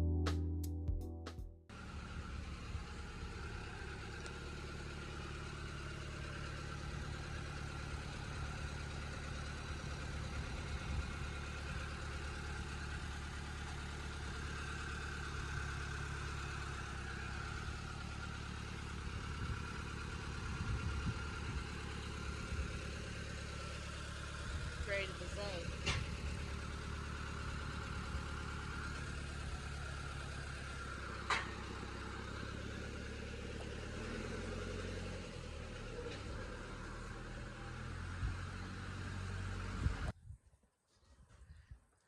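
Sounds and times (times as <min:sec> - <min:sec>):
engine idling: 0:01.7 - 0:40.2.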